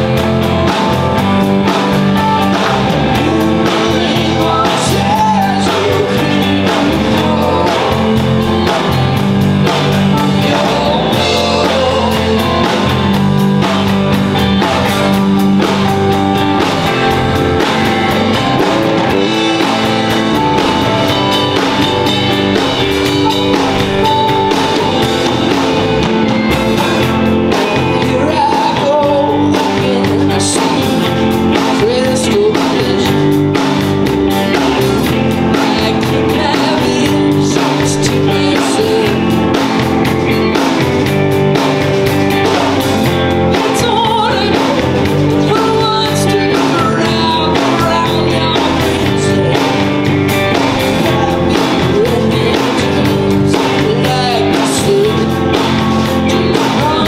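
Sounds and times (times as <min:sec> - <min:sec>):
rock music with singing: 0:00.0 - 0:57.0.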